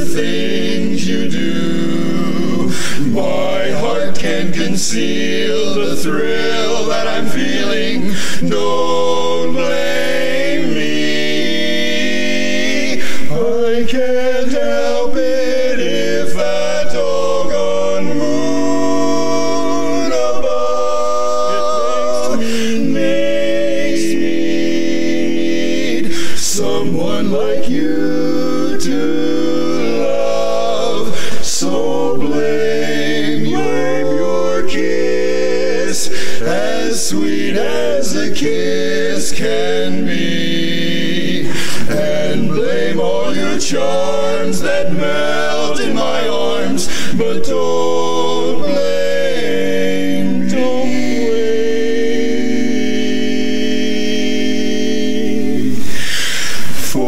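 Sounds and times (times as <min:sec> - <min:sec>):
men singing in harmony: 0:00.0 - 0:57.0.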